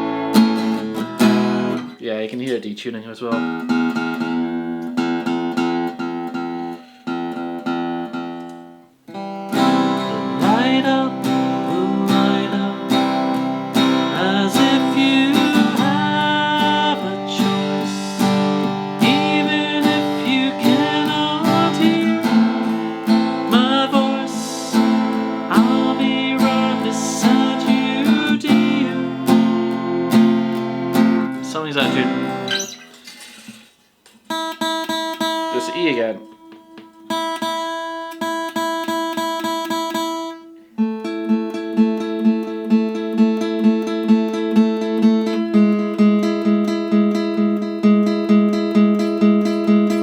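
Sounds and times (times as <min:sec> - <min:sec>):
acoustic guitar chords ringing: 0:00.0 - 0:02.1, 0:03.2 - 0:50.0
guitar picked melody: 0:00.0 - 0:50.0.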